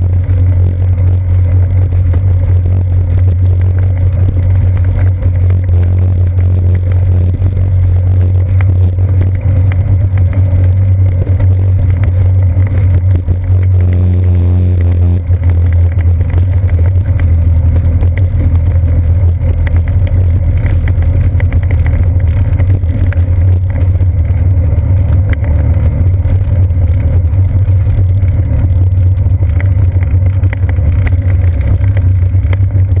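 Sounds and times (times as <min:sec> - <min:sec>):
bicycle rumbling on wooden boardwalk: 0:00.0 - 0:33.0.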